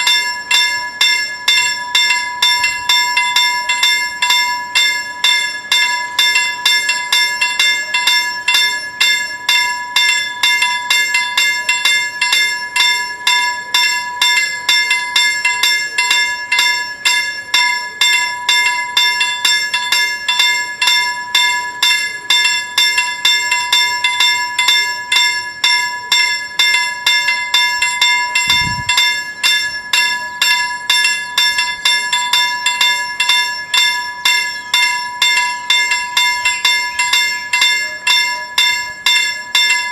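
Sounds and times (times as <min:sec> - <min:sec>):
level crossing bells ringing: 0:00.0 - 0:39.9.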